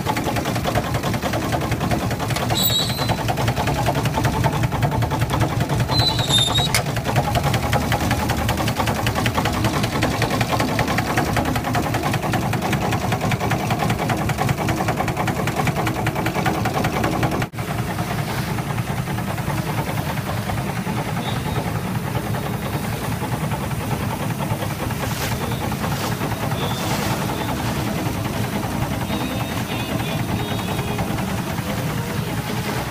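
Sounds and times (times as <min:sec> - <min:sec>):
steam engine clattering: 0:00.0 - 0:32.9.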